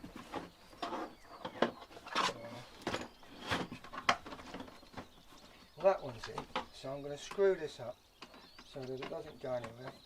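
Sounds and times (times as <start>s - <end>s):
lawn mower parts clicking and knocking: 0.0s - 5.1s, 6.2s - 7.5s, 8.2s - 10.0s.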